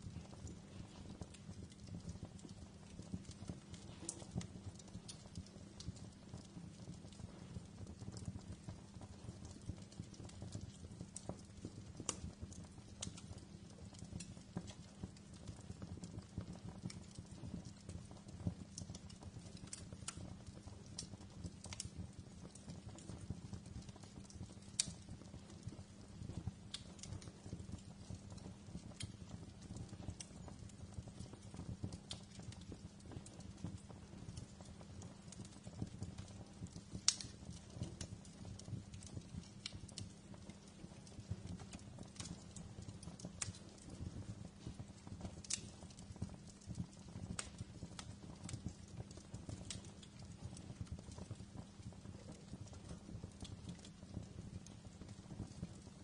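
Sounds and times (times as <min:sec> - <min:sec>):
low rumble of flame: 0:00.0 - 0:56.0
wood fire crackling: 0:00.0 - 0:56.0.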